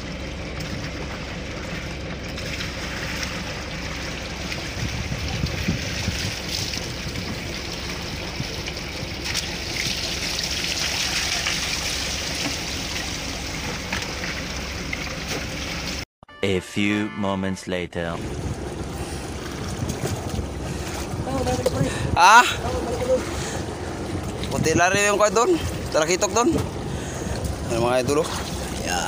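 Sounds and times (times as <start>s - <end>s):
water trickling and splashing: 0.0s - 16.0s, 18.2s - 29.0s
boat engine humming: 0.0s - 29.0s.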